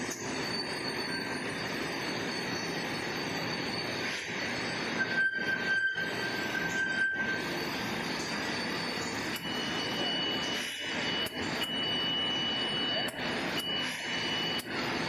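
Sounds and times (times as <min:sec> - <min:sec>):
higher squeal: 0:00.0 - 0:14.6
machine clatter and hiss: 0:00.0 - 0:15.0
high squealing tone: 0:00.1 - 0:14.6.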